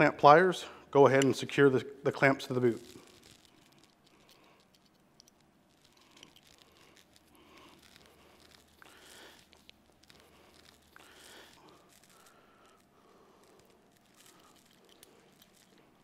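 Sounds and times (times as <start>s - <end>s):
faint rustling: 2.2s - 16.0s.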